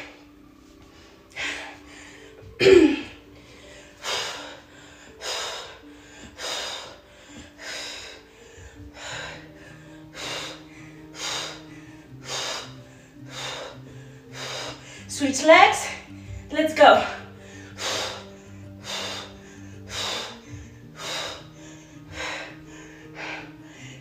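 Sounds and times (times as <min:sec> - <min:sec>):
woman breathing hard: 0:00.0 - 0:15.1, 0:15.9 - 0:24.0
faint background music: 0:00.0 - 0:24.0.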